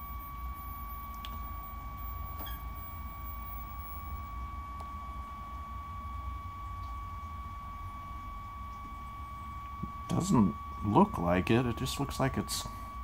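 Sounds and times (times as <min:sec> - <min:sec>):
faint high-pitched whine: 0:00.0 - 0:13.0
low hum: 0:00.0 - 0:13.0
steady beep-like test tone: 0:00.0 - 0:13.0.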